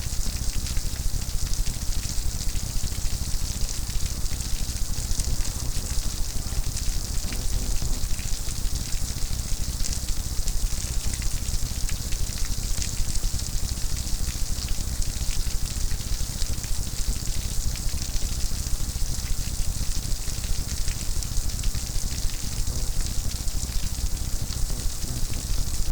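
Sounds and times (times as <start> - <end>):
steady rain: 0.0 - 25.9.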